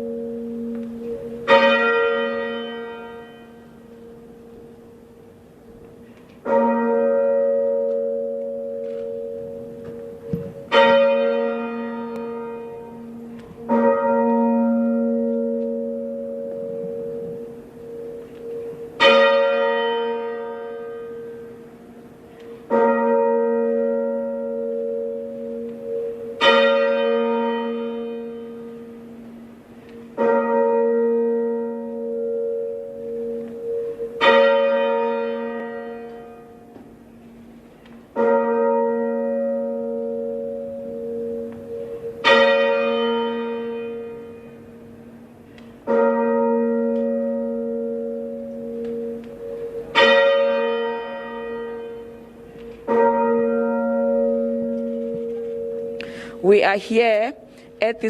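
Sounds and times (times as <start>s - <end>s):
church bell ringing slowly: 0.0s - 58.0s.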